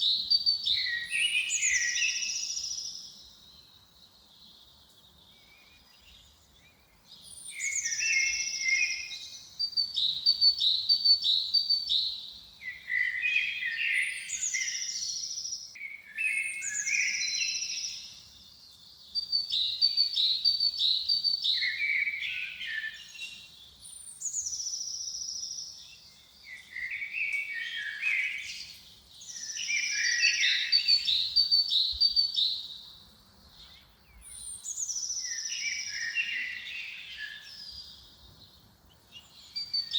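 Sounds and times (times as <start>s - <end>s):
songbird singing whistled trills: 0.0s - 39.9s.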